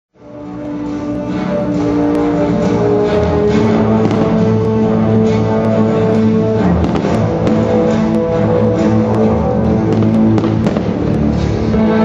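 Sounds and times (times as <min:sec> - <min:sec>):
music with held notes: 0:00.2 - 0:12.0.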